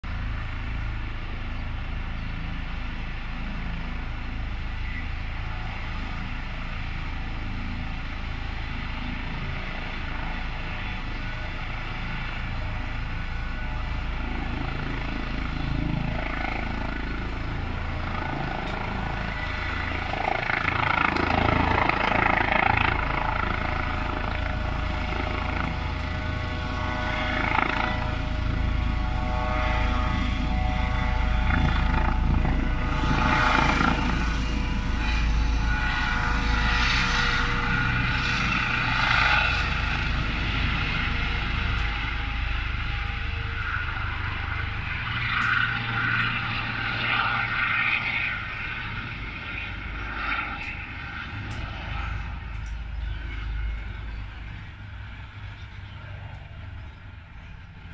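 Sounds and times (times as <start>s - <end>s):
helicopter rotor noise: 0.0s - 57.9s
helicopter turbine whine: 0.0s - 57.9s.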